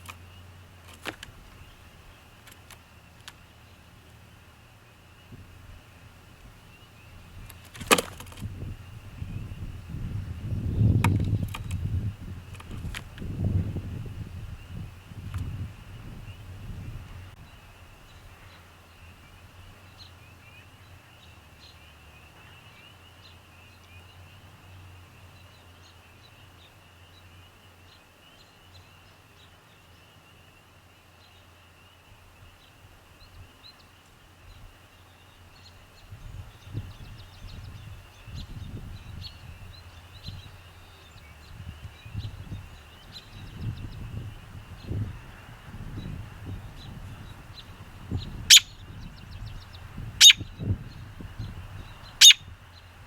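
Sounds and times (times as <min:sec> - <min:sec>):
distant birds chirping: 0:00.0 - 0:53.0.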